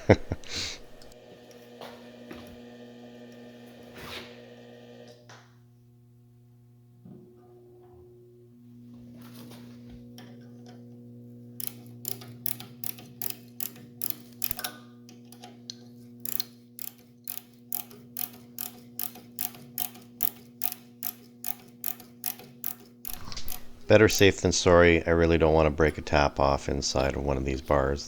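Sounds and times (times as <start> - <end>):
steady electrical hum: 0.0 - 7.0, 8.0 - 28.0.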